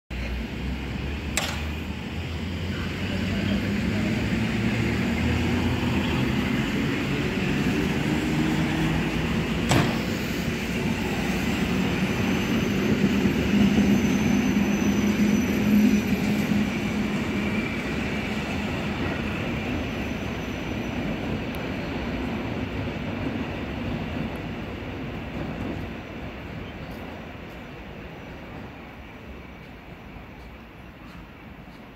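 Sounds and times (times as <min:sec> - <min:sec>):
wheels rumbling on rails: 0:00.1 - 0:31.9.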